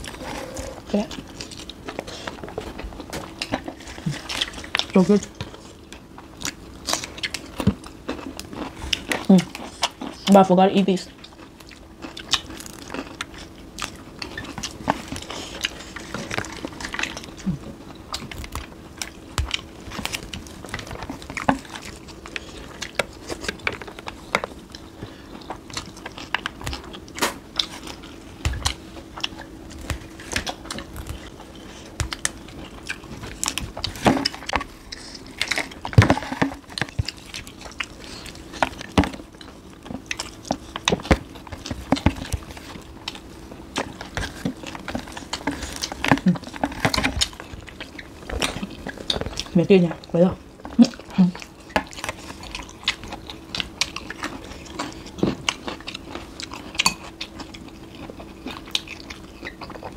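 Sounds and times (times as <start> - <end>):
chewing and crunching food: 0.0 - 59.9
steady low hum: 0.0 - 59.9.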